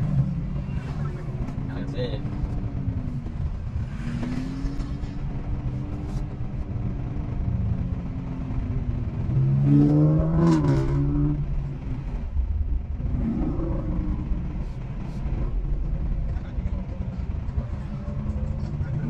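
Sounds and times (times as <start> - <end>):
car engine revving: 0.0 - 19.0
car engines rumbling: 0.0 - 19.0.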